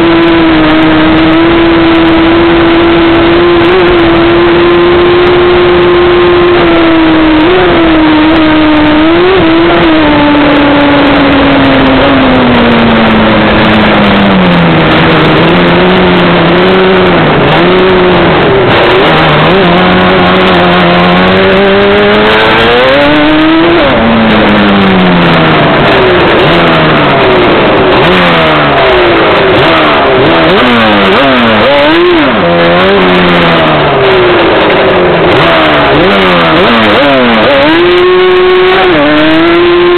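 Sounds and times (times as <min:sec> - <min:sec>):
wind noise: 0:00.0 - 0:39.8
two-stroke engine revving: 0:00.0 - 0:39.9.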